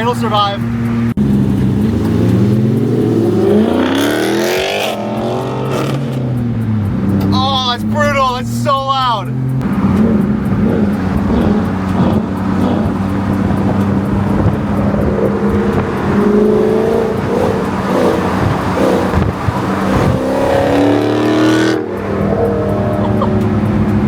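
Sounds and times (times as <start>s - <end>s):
car engine drone: 0.0s - 24.0s
loud exhaust revving: 0.0s - 24.0s.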